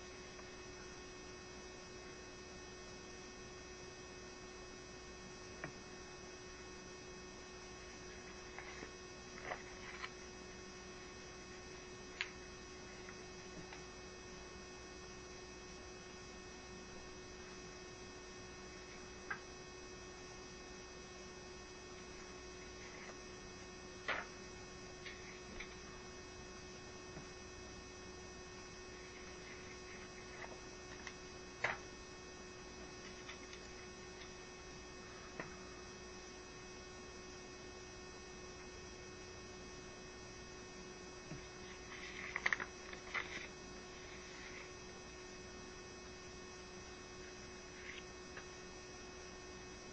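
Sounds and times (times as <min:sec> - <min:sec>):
electrical mains hum: 0:00.0 - 0:49.9.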